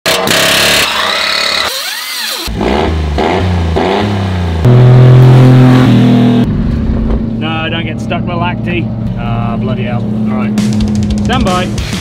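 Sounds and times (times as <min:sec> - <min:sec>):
small truck engine revving: 0:00.1 - 0:12.0.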